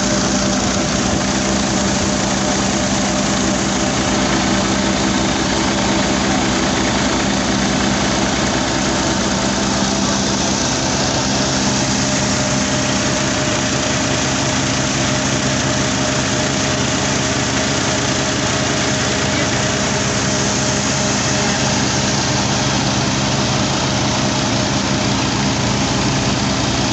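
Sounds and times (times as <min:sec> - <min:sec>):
tractor diesel engine running: 0:00.0 - 0:26.9
whir of grinding mill and belt: 0:00.0 - 0:26.9.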